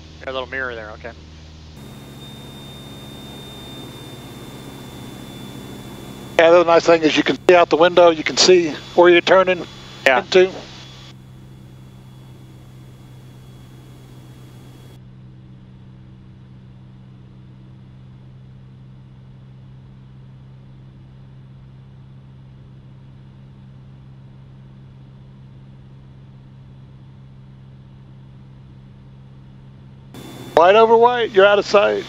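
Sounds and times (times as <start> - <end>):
light aircraft engine and propeller drone: 0.0 - 25.5, 30.2 - 32.0.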